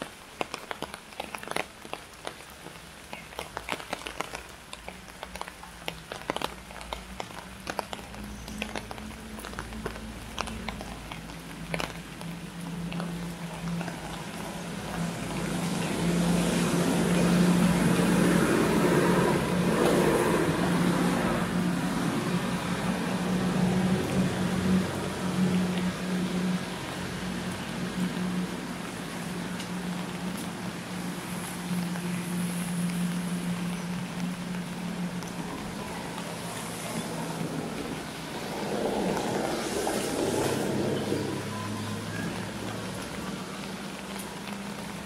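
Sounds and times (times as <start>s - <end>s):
tyre hiss on wet road: 0.0s - 45.0s
engine hum: 4.5s - 45.0s.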